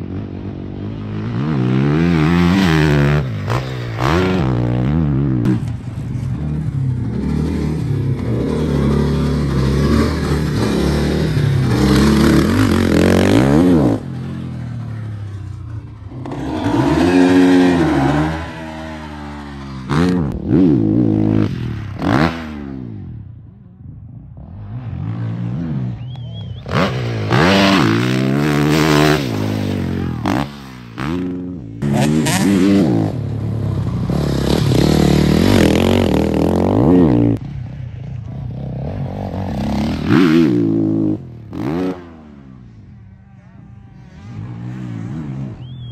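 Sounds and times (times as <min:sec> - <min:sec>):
motocross bike engine revving: 0:00.0 - 0:23.0, 0:24.4 - 0:43.2, 0:43.8 - 0:45.9.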